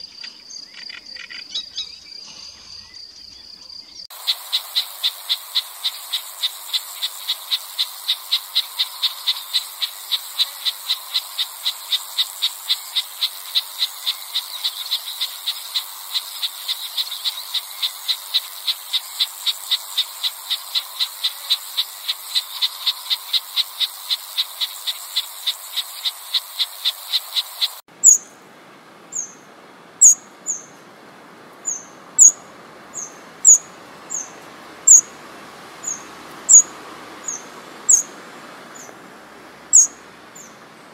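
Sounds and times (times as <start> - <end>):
wren high-pitched ticking calls: 0.0 - 2.2, 2.8 - 28.3, 30.0 - 30.7, 31.7 - 32.4, 33.0 - 35.1, 35.8 - 38.1, 39.7 - 40.5
repeated bird call notes: 0.0 - 28.3, 29.1 - 30.8, 31.6 - 35.1, 35.8 - 38.1, 39.7 - 40.6
faint hiss: 2.0 - 40.9.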